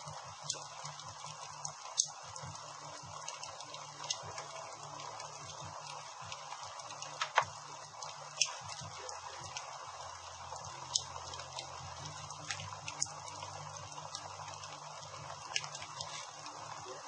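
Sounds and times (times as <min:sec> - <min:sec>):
crackles of burning wood: 0:00.0 - 0:17.0
hiss of flames: 0:00.0 - 0:17.0.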